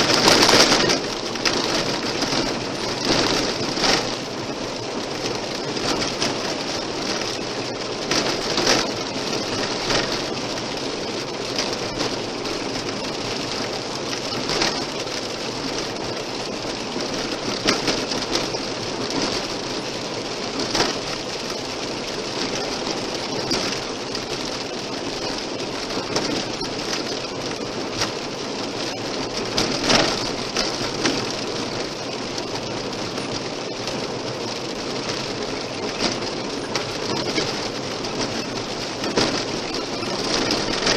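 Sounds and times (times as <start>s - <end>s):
tyres rolling on gravel: 0.0s - 40.9s.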